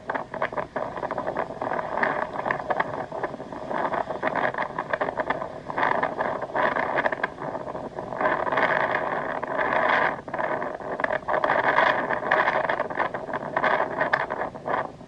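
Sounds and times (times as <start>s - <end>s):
strong gusty wind: 0.0s - 15.0s.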